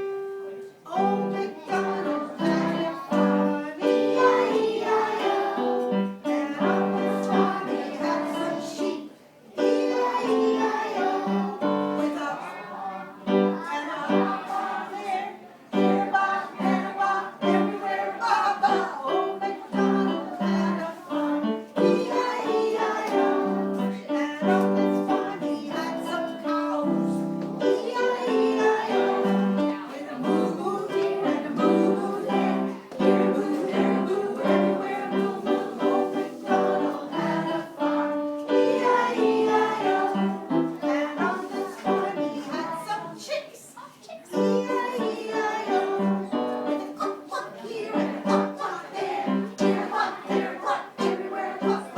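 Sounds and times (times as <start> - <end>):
woman singing: 0.9 - 5.6, 6.2 - 9.0, 13.6 - 43.4, 44.3 - 51.9
children singing: 0.9 - 43.3, 44.3 - 51.9.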